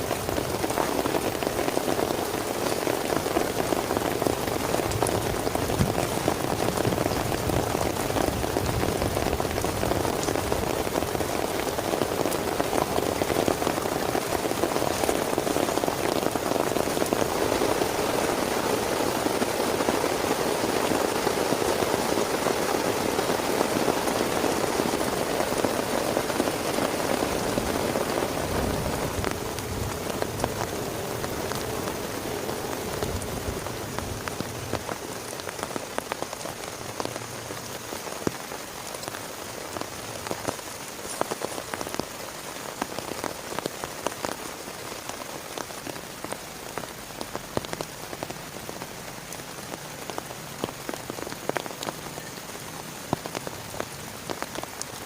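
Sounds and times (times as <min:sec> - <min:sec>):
rain drops tapping on a surface: 0:00.0 - 0:55.0.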